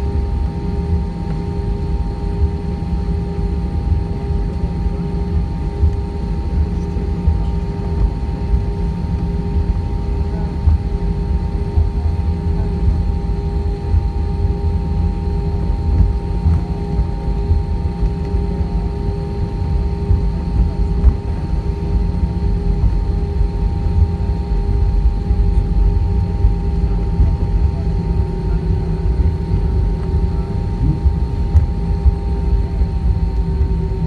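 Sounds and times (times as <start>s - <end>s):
aircraft cabin low rumble: 0.0s - 34.0s.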